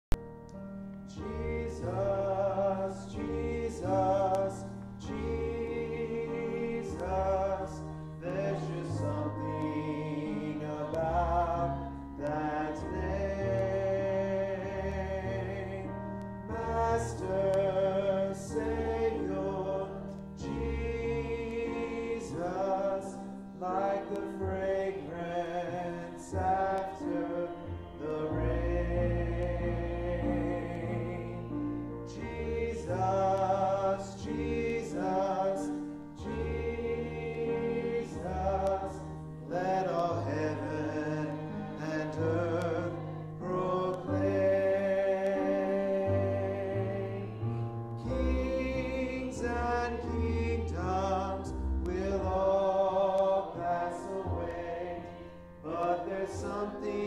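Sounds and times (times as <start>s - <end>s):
man singing a hymn: 1.1s - 47.4s, 48.0s - 57.0s.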